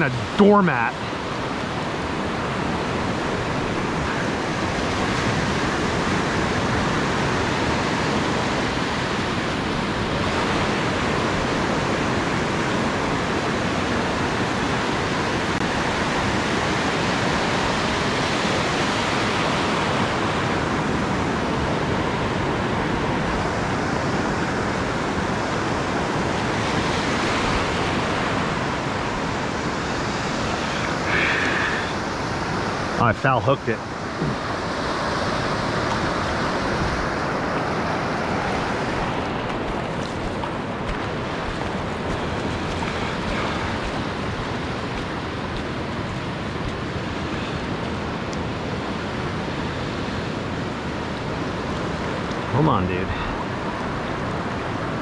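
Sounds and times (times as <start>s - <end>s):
waves breaking on sand: 0.0s - 55.0s.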